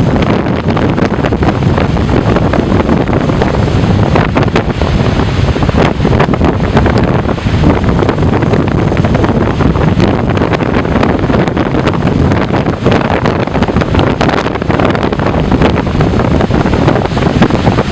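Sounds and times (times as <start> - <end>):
surf breaking on shore: 0.0 - 17.9
wind buffeting microphone: 0.0 - 17.9.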